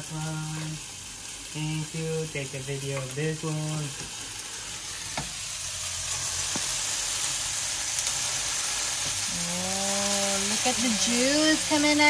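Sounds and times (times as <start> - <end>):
burger patties sizzling in a pan: 0.0 - 12.0.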